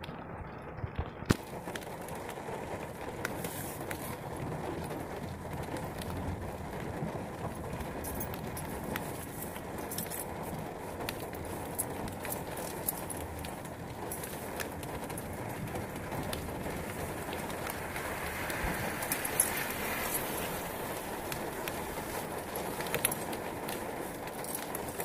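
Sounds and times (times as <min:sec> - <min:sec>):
raindrops tapping: 0:00.0 - 0:25.0
steady rain falling: 0:00.0 - 0:25.0.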